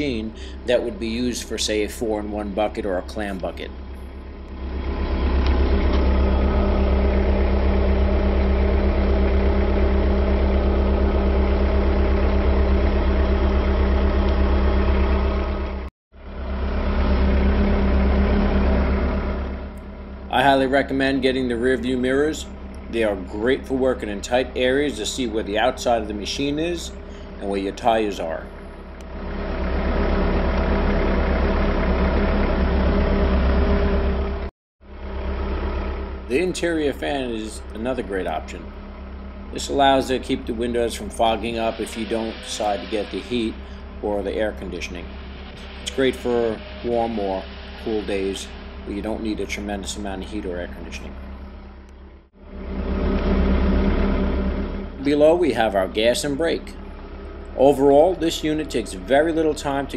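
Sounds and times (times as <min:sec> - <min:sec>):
telehandler engine running: 0:00.0 - 0:59.9.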